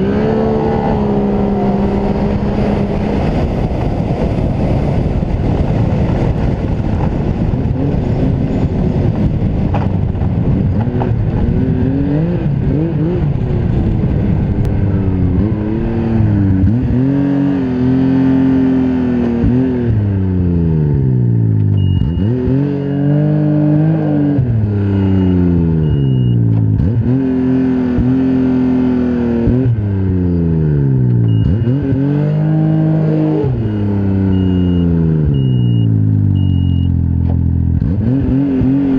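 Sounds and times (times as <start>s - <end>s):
snowmobile engine revving: 0.0s - 3.8s, 10.4s - 36.8s, 37.8s - 38.9s.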